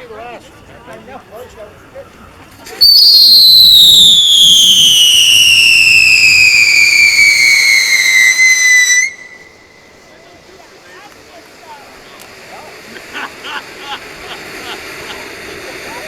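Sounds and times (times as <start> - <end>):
firework fountain screaming whistle: 2.8 - 16.0.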